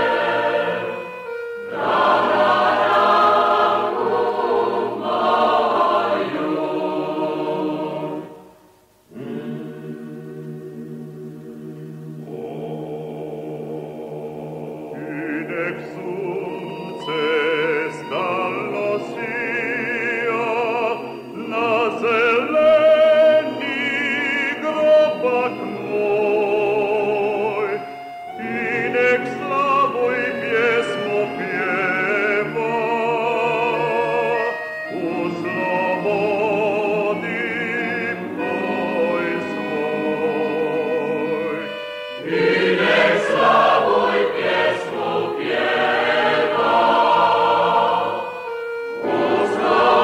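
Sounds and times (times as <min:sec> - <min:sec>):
classical choral singing: 0:00.0 - 0:50.0.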